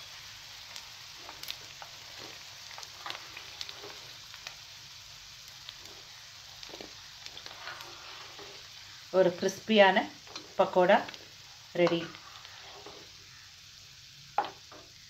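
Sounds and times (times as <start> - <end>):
oil sizzling while deep-frying: 0.0 - 15.0.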